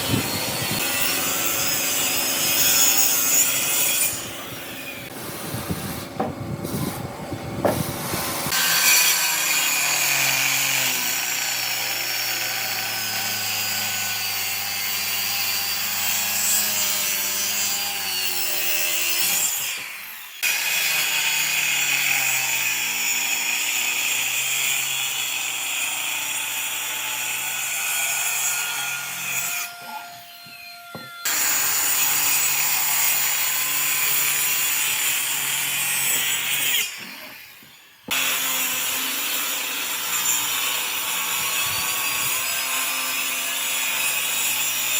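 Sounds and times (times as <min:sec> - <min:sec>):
power tool cutting wood: 0:00.0 - 0:44.9.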